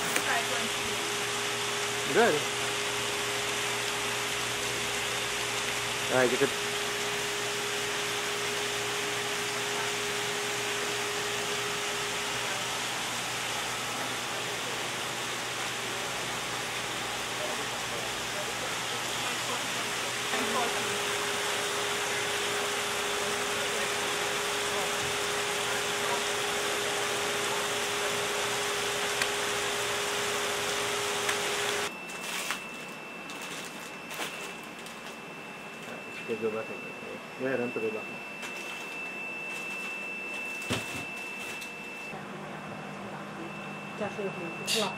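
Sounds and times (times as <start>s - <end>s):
steady high whine: 0.0s - 44.9s.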